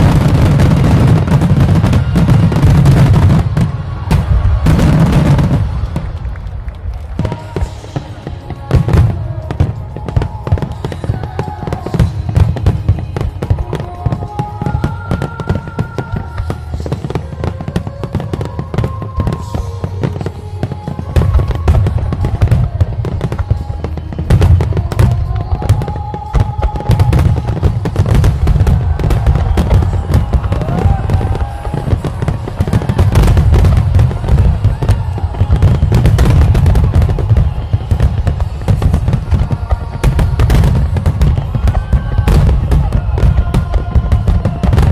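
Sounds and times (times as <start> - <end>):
fireworks bangs and crackles: 0.0 - 44.9
fireworks deep booms: 0.0 - 44.9.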